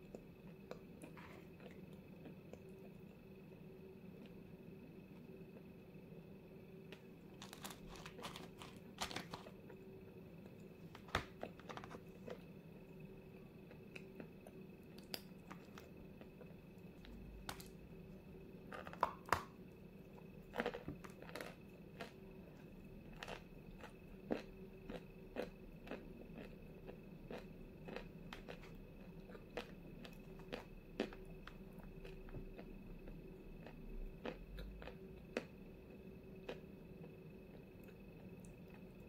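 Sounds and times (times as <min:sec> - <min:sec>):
crunching and chewing clay: 0:00.0 - 0:03.3, 0:06.8 - 0:17.9, 0:18.6 - 0:39.0.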